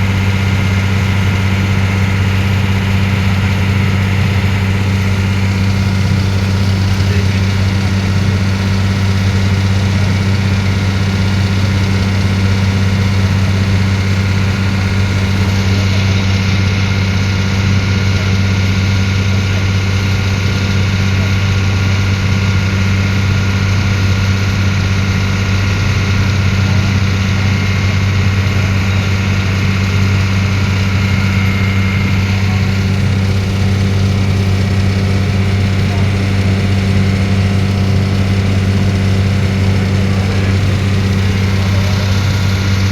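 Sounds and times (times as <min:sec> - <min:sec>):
boat engine humming: 0:00.0 - 0:42.9.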